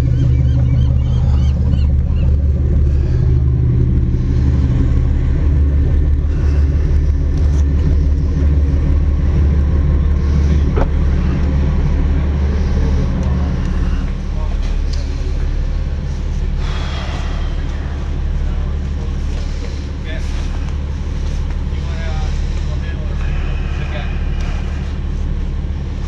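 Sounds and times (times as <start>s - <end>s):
diesel engines rumbling: 0.0s - 26.0s.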